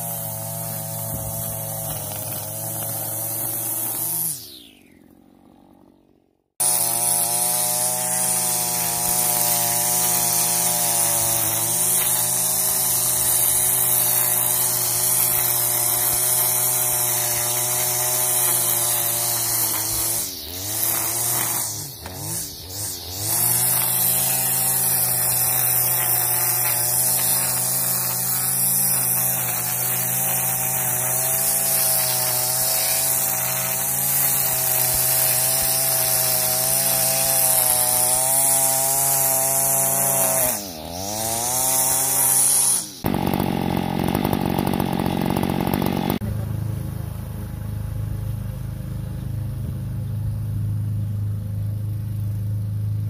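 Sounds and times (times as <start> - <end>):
string trimmer engine: 0.0 - 53.0.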